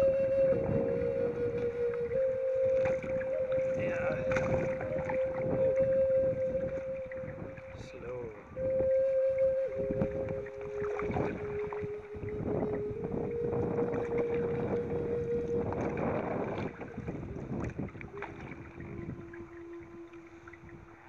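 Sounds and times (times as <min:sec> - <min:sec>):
long held notes: 0:00.0 - 0:21.0
paddle strokes splashing water: 0:01.5 - 0:21.0.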